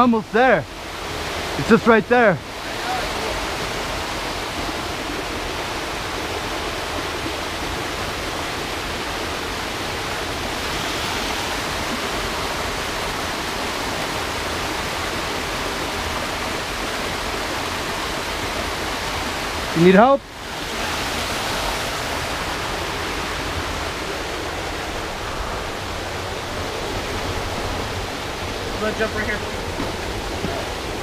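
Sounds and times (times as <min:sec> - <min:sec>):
creek rushing over boulders: 0:00.0 - 0:31.0.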